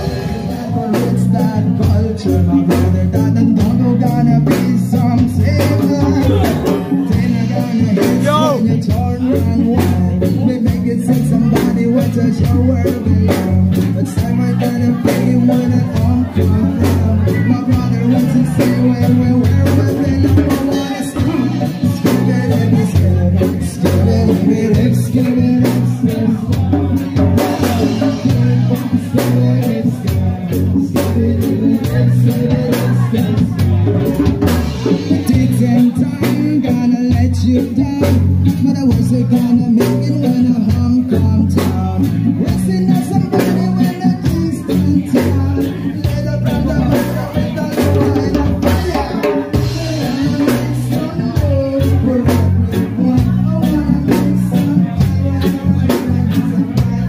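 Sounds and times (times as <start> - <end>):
live reggae band playing: 0.0 - 57.0
person singing: 0.0 - 57.0.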